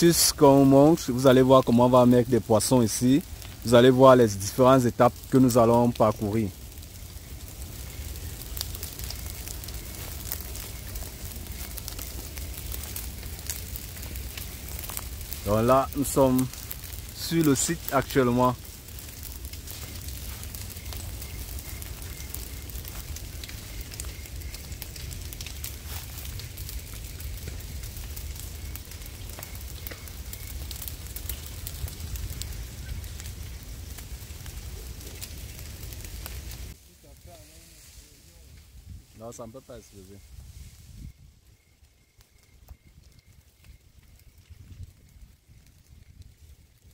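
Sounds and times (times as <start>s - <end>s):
brush fire crackling and popping: 0.0s - 46.9s
low fire rumble: 0.0s - 46.9s.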